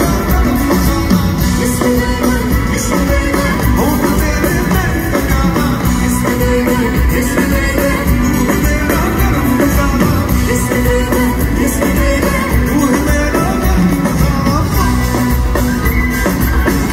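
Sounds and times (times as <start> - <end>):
live band playing: 0.0 - 16.9
person singing: 0.0 - 16.9.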